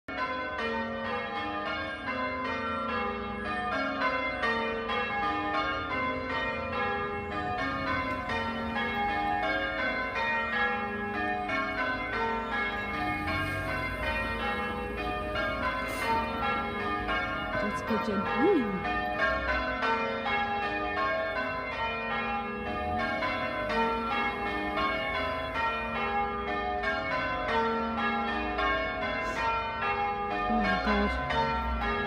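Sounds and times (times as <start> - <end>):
church bells pealing: 0.1 - 32.0.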